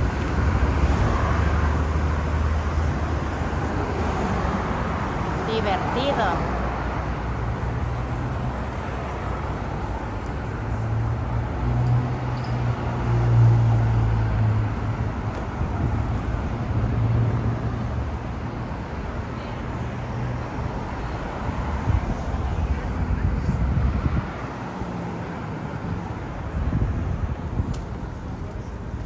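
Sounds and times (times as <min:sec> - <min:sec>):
cars driving past: 0:00.0 - 0:29.0.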